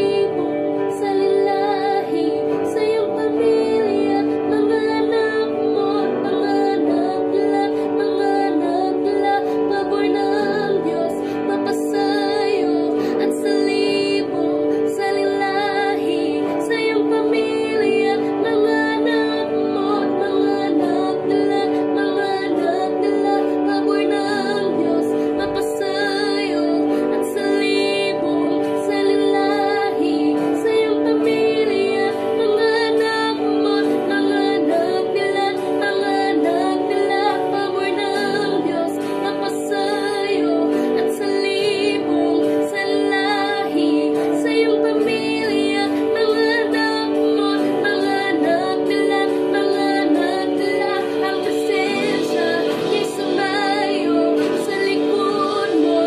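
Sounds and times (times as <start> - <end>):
instrumental backing track: 0.0 - 56.0
woman singing worship ballad: 0.0 - 56.0.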